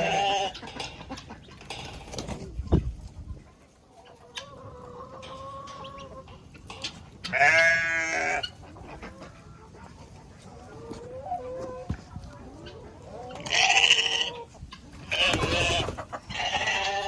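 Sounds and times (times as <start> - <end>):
farm animals calling: 0.0 - 17.0.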